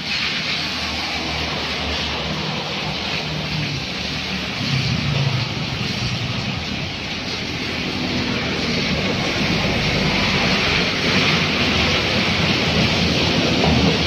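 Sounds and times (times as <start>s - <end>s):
car tyres splashing through water: 0.0s - 14.0s
steady rain: 0.0s - 14.0s.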